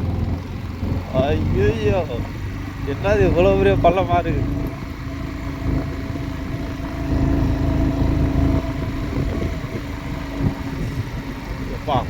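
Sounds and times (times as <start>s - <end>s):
motorcycle engine climbing under load: 0.0s - 12.0s.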